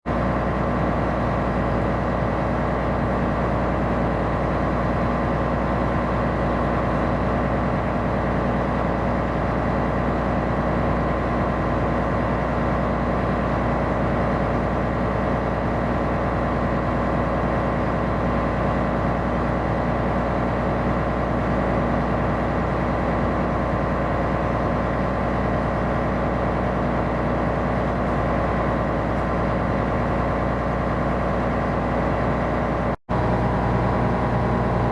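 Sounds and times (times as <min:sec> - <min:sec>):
ship diesel engine humming: 0:00.1 - 0:34.9.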